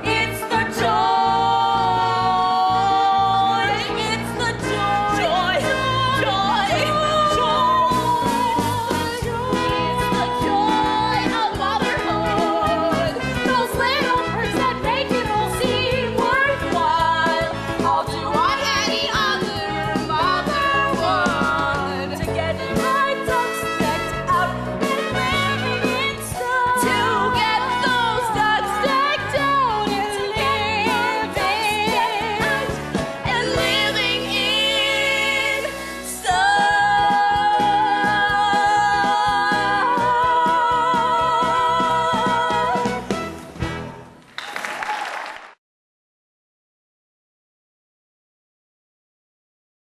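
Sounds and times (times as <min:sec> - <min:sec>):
young performers singing: 0:00.0 - 0:43.1
instrumental accompaniment: 0:00.0 - 0:44.4.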